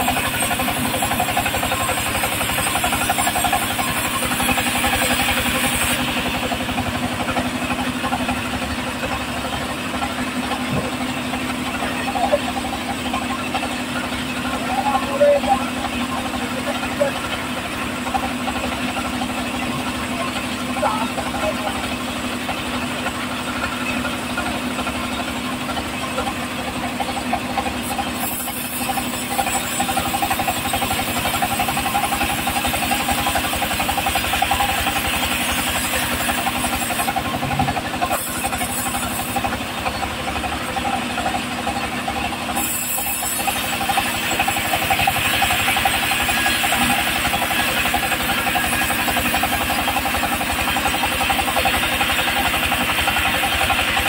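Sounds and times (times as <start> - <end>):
band saw blade cutting log: 0.0 - 25.5, 26.1 - 54.0
engine chugging: 0.0 - 54.0.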